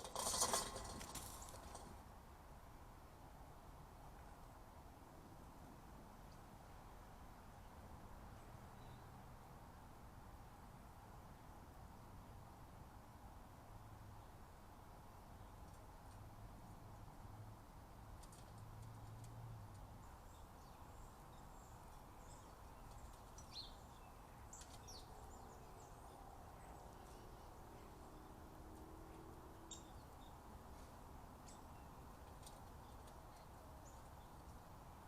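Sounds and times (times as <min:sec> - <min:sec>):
low background hiss: 0:00.0 - 0:35.0.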